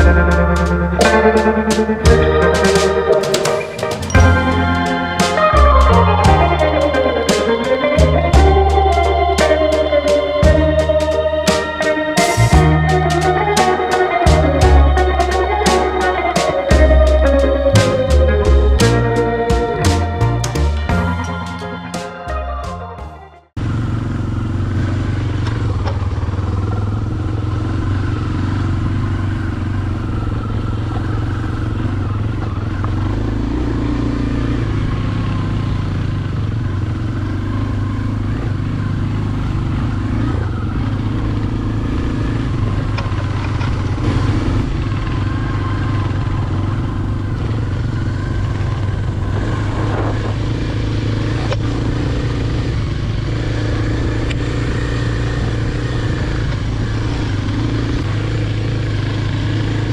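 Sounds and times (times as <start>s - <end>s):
dirt bike engine running: 0.0s - 21.8s, 23.6s - 59.9s.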